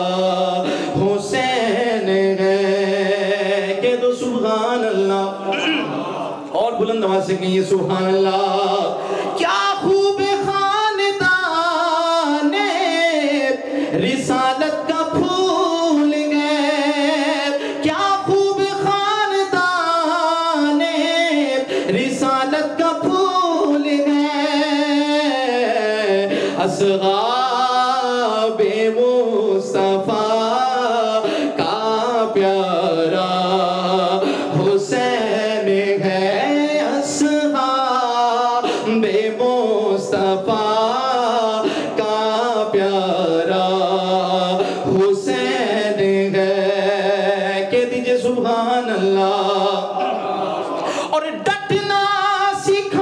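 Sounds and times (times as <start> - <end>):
man singing into a microphone: 0.0 - 53.0.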